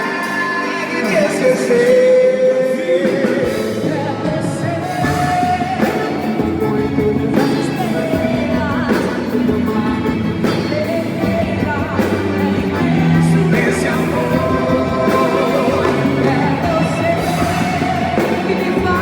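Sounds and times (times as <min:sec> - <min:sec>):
live band playing: 0:00.0 - 0:19.0
person singing slow love song: 0:00.0 - 0:19.0.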